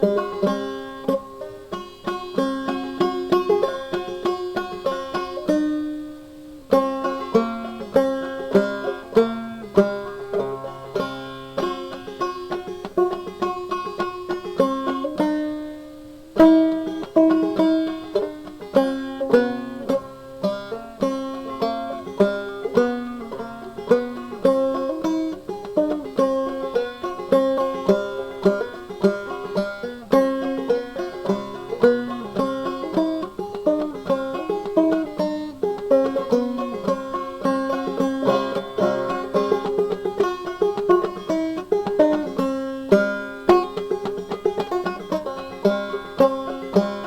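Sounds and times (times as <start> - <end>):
banjo plucked tune: 0.0 - 47.0.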